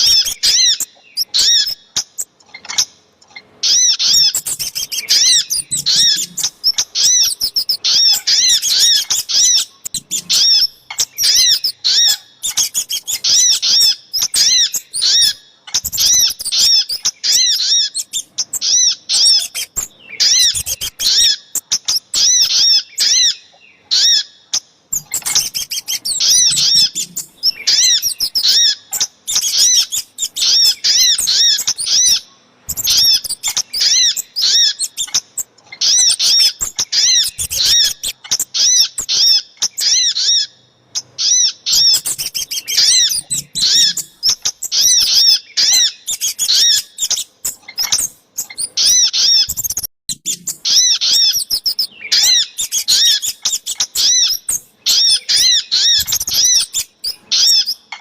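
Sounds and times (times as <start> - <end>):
high rapid bird chirps: 0.0 - 24.2, 24.9 - 57.9.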